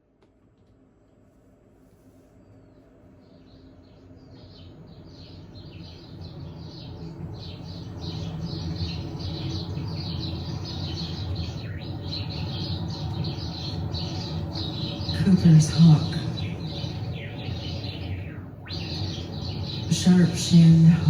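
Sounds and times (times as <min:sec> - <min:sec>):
birds chirping: 0:02.5 - 0:21.0
low steady drone: 0:03.9 - 0:21.0.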